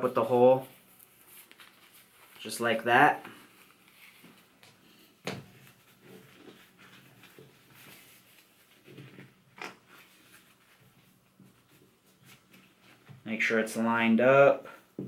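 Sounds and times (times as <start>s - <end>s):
face mask rustling: 0.0s - 13.3s.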